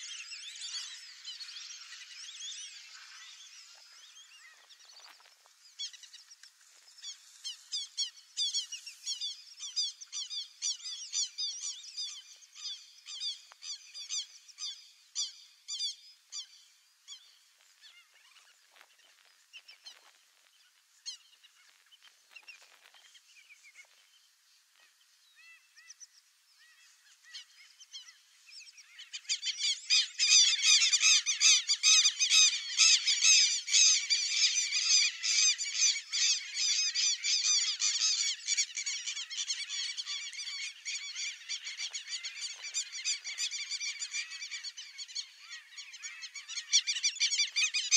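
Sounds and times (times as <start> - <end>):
birds yapping calls: 0.0 - 47.9.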